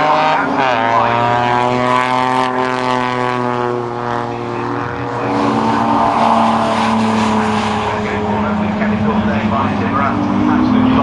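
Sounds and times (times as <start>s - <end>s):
racing car driving past: 0.0s - 11.0s.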